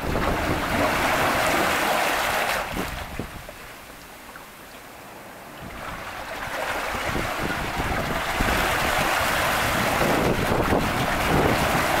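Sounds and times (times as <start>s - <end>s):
seawater rushing through rocks: 0.0s - 3.6s, 5.4s - 12.0s.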